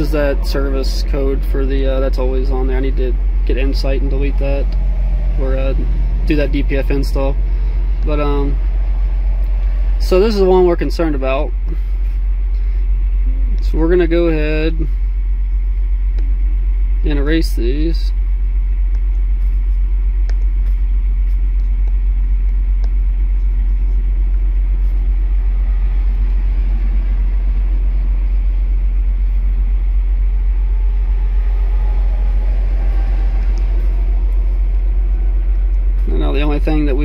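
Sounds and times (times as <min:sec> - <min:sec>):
engine idling low rumble: 0:00.0 - 0:37.0.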